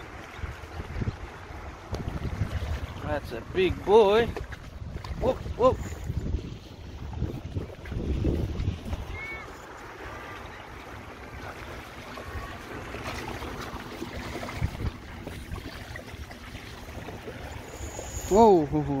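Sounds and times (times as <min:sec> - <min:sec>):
wind buffeting the microphone: 0:00.0 - 0:10.6, 0:12.2 - 0:19.0.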